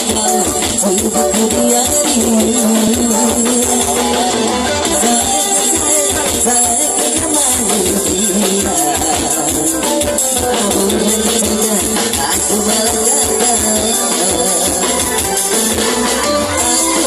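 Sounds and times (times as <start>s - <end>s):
band playing with percussion: 0.0s - 17.0s.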